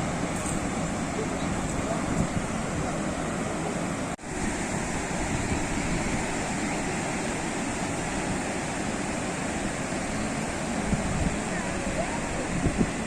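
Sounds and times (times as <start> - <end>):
sea waves washing onto shore: 0.0 - 13.0.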